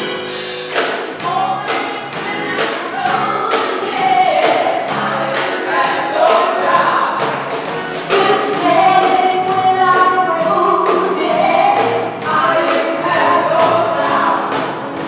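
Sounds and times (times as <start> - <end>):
live band playing: 0.0 - 15.0
women singing gospel song: 1.2 - 15.0.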